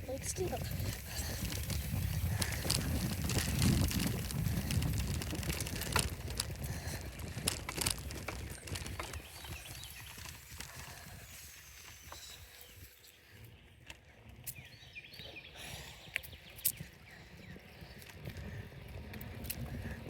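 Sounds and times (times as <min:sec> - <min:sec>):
bicycle clicks and rattles: 0:00.0 - 0:14.8, 0:15.6 - 0:20.0
wind rumble while cycling: 0:00.0 - 0:20.0.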